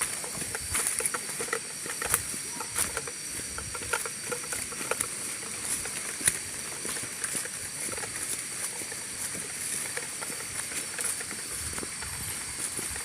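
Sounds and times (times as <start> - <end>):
high-pitched insect buzz: 0.0 - 13.0
light ticks and rustles: 0.0 - 13.0.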